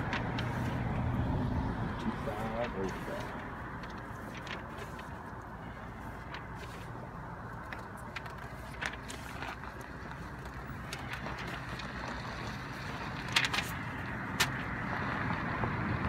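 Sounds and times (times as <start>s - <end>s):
paper sheets rustling: 0.0s - 1.2s, 2.0s - 14.7s
outdoor background noise: 0.0s - 16.0s.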